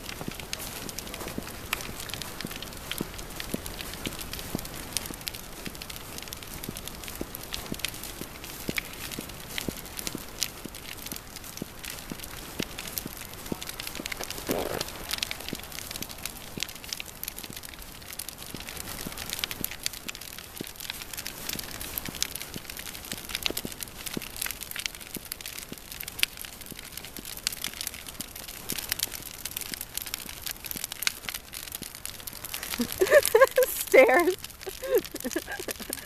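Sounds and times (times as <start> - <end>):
bonfire crackling and hissing: 0.0 - 36.0.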